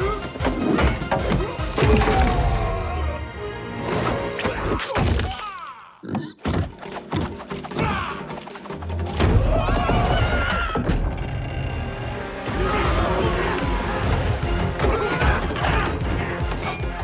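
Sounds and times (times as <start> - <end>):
action score music: 0.0 - 5.0, 6.6 - 17.0.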